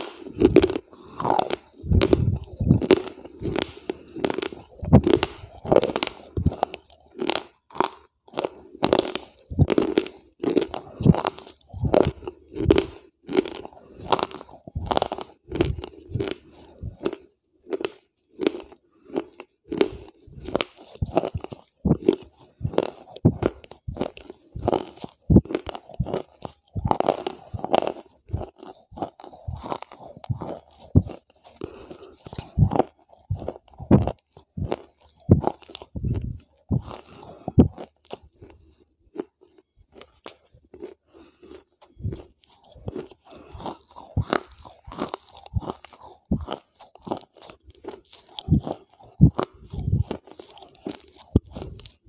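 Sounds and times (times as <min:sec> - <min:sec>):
chewing crunchy chips: 0:00.0 - 0:52.0.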